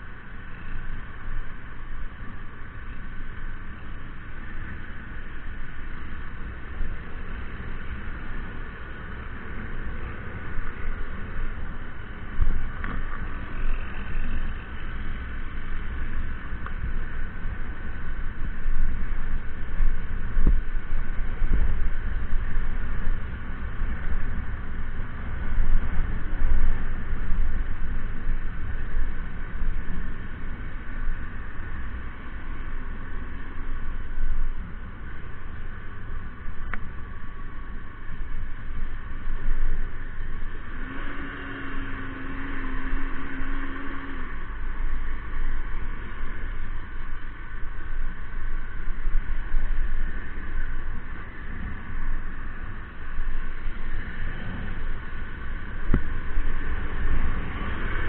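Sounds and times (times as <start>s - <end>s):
steady low tone: 0.0s - 58.0s
steady mechanical hum: 0.0s - 58.0s
wind buffeting microphone: 0.9s - 58.0s.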